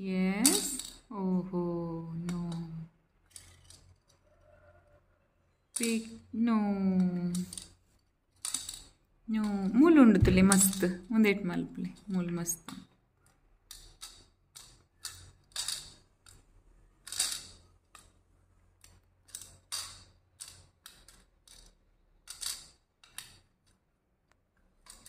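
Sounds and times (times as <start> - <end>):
beads clicking on plastic toy: 0.3 - 1.1, 2.1 - 4.5, 5.7 - 23.9.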